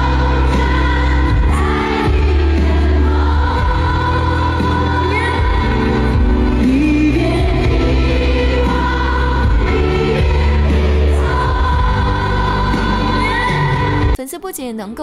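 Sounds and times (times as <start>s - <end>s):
band with heavy bass: 0.0s - 14.2s
crowd singing a ballad: 0.0s - 14.2s.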